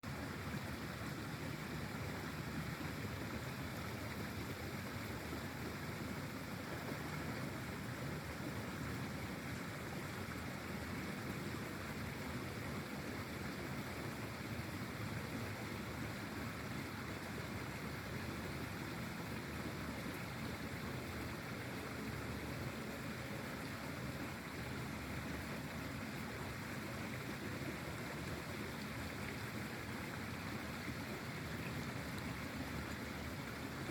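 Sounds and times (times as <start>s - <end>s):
flowing water rushing: 0.0s - 33.9s.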